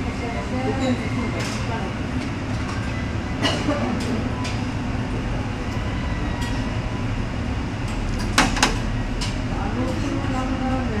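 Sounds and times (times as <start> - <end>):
restaurant background rumble: 0.0 - 11.0.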